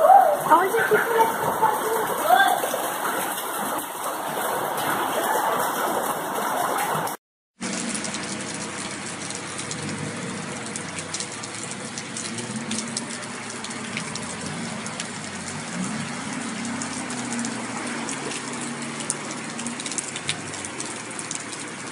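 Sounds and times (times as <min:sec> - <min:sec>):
heavy rain rushing: 0:00.0 - 0:21.9.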